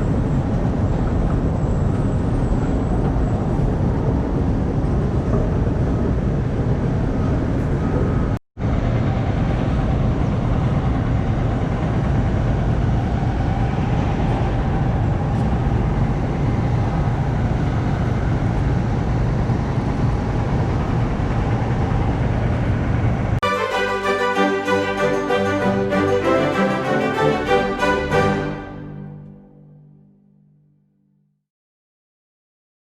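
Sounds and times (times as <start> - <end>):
city transit rumble: 0.0 - 29.6.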